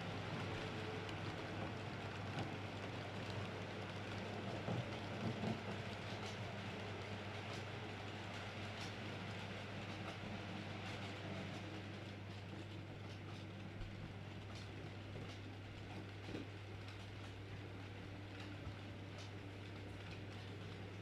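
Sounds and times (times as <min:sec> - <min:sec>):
train wheels clicking on rails: 0:00.0 - 0:21.0.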